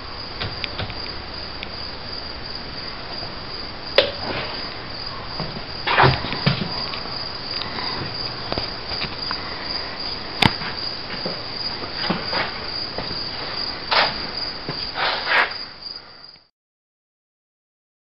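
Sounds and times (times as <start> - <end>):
high-pitched insect trilling: 0.0 - 16.4.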